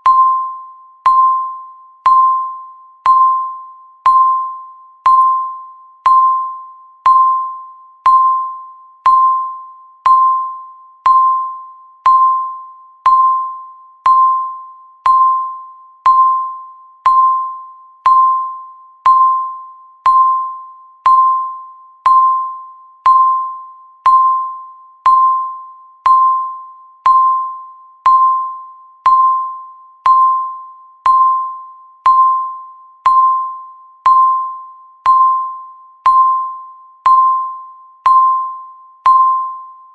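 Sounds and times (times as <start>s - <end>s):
timer tick ping: 0.0s - 39.9s.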